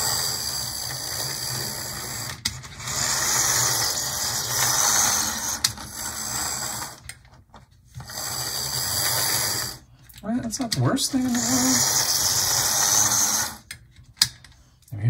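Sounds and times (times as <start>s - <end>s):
model train motor and gears: 0.0s - 7.3s, 8.0s - 14.4s.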